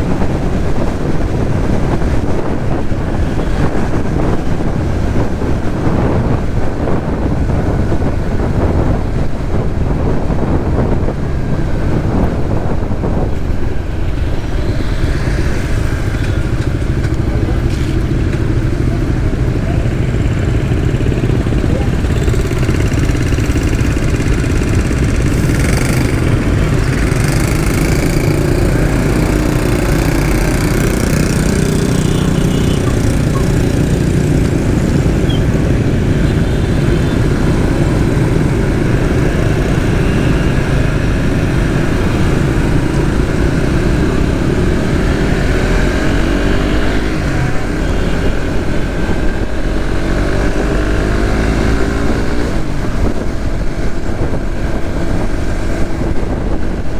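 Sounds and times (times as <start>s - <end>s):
heavy low rumble: 0.0s - 50.8s
motorcycle engine running: 0.0s - 56.9s.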